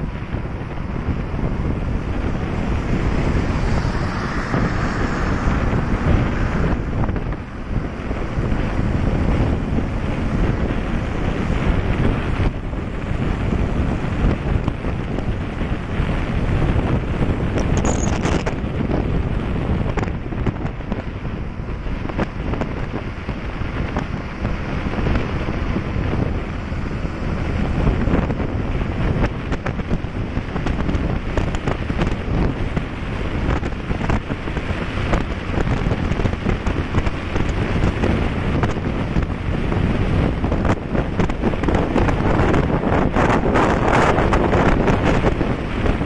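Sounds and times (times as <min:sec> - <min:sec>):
road noise: 0:00.0 - 0:46.0
wind buffeting microphone: 0:00.0 - 0:46.0.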